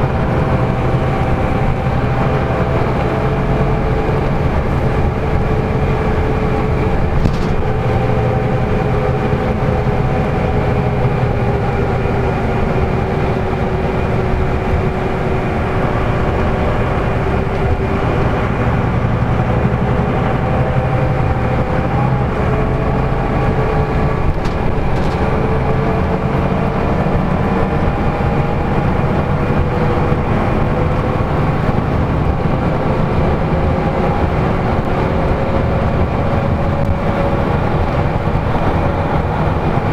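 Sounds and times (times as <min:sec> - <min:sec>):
bus engine drone with whine: 0:00.0 - 0:39.9
road rumble: 0:00.0 - 0:39.9.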